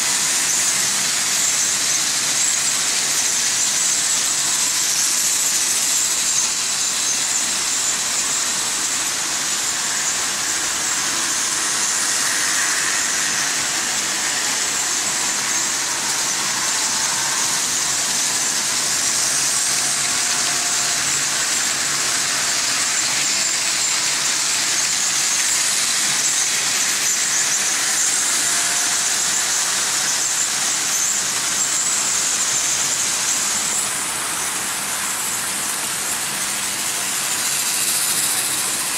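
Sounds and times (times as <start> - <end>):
faint motor whines: 0.0 - 38.9
model train wheels rattling on track: 0.0 - 38.9.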